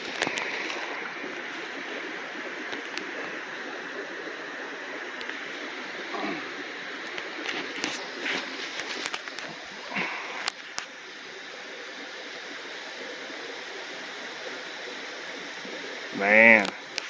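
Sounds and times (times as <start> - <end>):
mountain stream running: 0.0 - 17.0
water splashes: 0.0 - 17.0.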